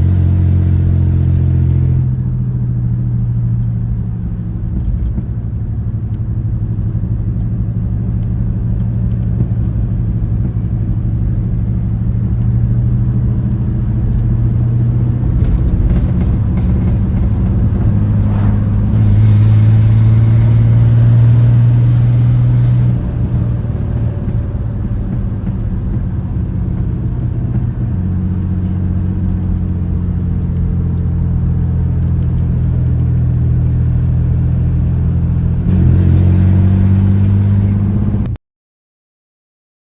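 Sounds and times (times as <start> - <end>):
loud engine exhaust drone: 0.0 - 38.4.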